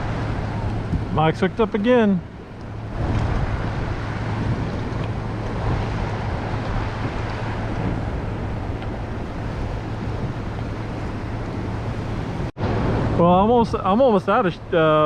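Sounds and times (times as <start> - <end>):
constant low hum: 0.0 - 15.0
waves: 0.0 - 15.0
wind rushing over microphone: 0.0 - 15.0.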